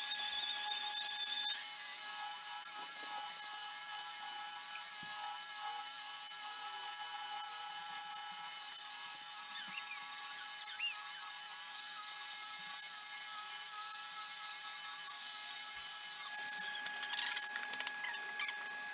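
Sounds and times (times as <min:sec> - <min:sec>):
electric polisher motor whine: 0:00.0 - 0:18.9.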